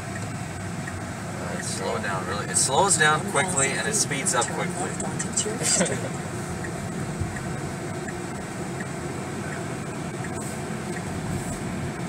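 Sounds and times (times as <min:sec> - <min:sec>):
road and tyre noise in car cabin: 0:00.0 - 0:12.0.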